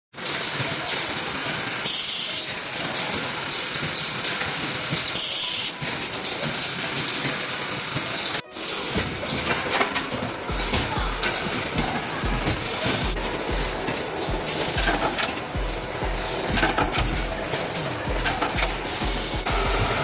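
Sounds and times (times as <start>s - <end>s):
sharp machine clicks: 0.2s - 20.0s
wire cutting machines running: 0.2s - 20.0s.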